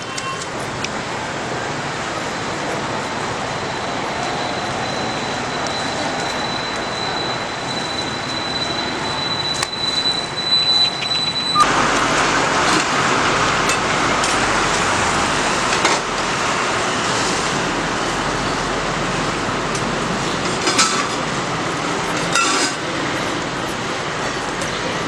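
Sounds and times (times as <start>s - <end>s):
passing traffic: 0.0s - 25.0s.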